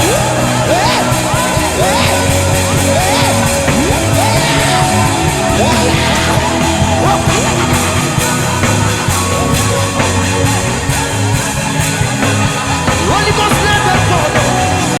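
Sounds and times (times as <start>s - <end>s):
gospel band music: 0.0s - 15.0s.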